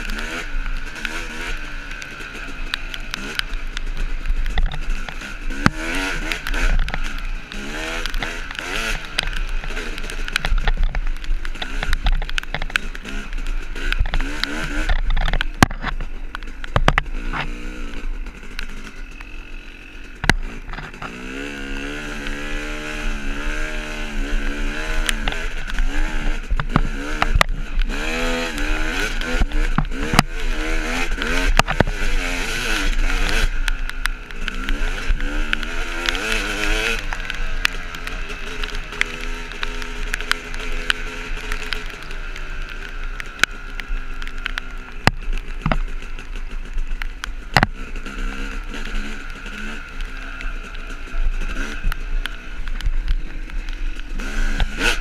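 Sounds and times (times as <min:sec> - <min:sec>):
dirt bike engine: 0:00.0 - 0:55.0.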